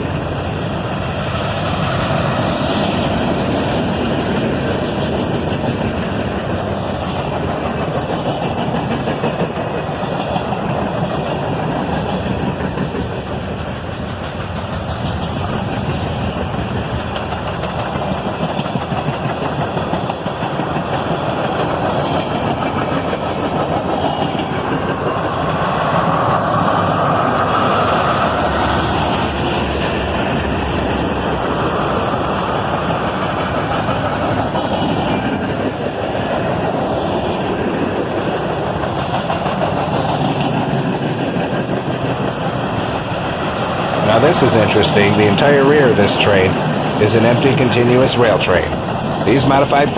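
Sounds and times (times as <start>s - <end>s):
freight train cars rolling past: 0.0s - 49.9s.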